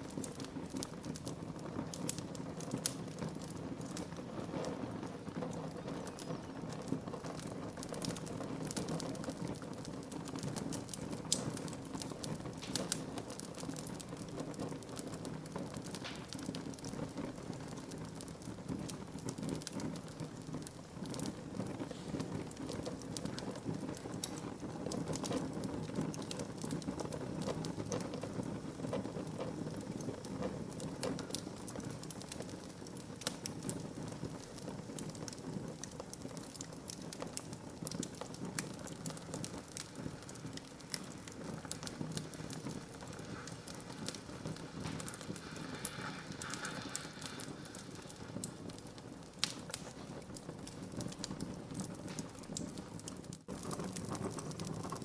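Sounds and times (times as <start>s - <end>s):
crackling wood pops: 0.0s - 55.0s
low rush of flame: 0.0s - 55.0s.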